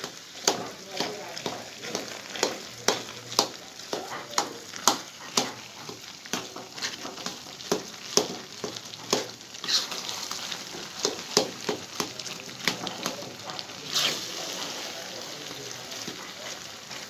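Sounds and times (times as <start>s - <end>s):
eggs sizzling: 0.0s - 17.0s
spatula scraping frying pan: 0.0s - 17.0s.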